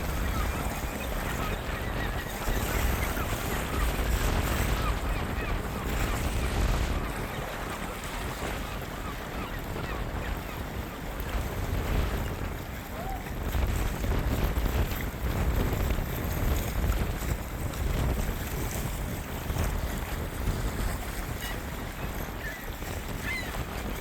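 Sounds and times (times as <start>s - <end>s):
waves washing: 0.0s - 24.0s
wind buffeting microphone: 0.0s - 24.0s.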